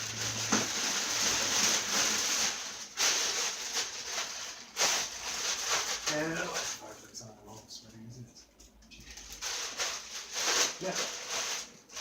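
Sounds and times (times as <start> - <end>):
plastic wrap crinkling: 0.0 - 7.1, 9.0 - 12.0.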